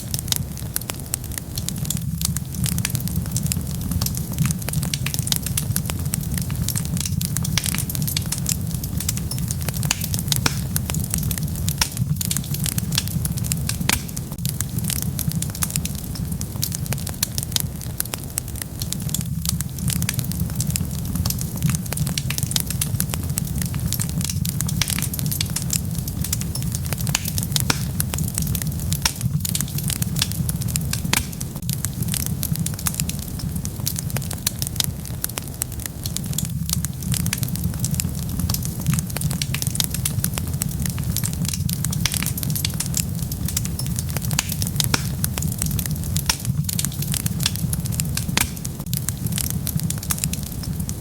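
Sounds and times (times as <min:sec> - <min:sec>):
low rumble of flame: 0:00.0 - 0:51.0
wood fire crackling and popping: 0:00.0 - 0:51.0.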